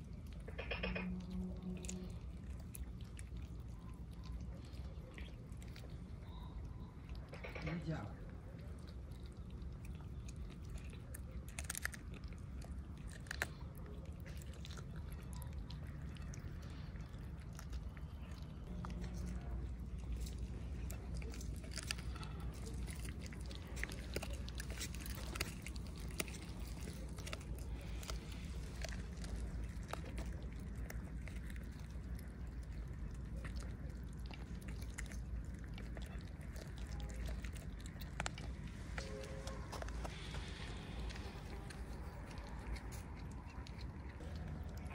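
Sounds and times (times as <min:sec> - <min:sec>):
cats chewing bone: 0:00.0 - 0:44.9
kittens eating: 0:00.0 - 0:44.9
low background rumble: 0:00.0 - 0:44.9.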